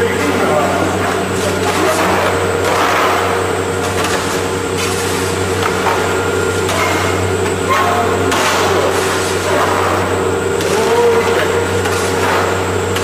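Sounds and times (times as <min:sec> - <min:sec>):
constant mechanical noise: 0:00.0 - 0:13.0
machinery humming: 0:00.0 - 0:13.0.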